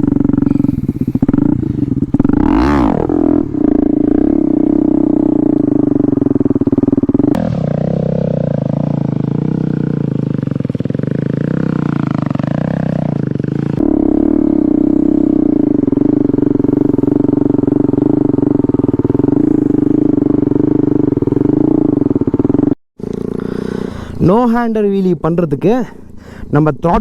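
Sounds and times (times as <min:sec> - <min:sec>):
motorcycle engine at high revs: 0:00.0 - 0:24.6.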